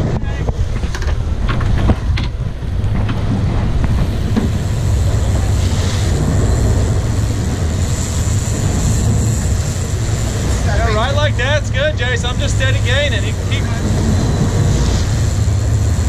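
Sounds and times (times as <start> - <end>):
boat engines rumbling: 0.0 - 16.0
water rushing along hull: 0.0 - 16.0
wind buffeting microphone: 0.0 - 16.0.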